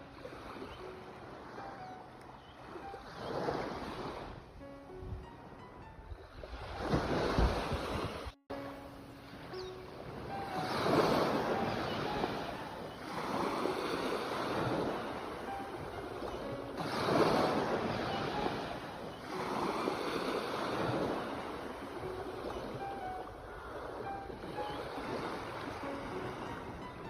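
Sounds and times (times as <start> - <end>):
sea waves breaking: 0.0 - 27.0.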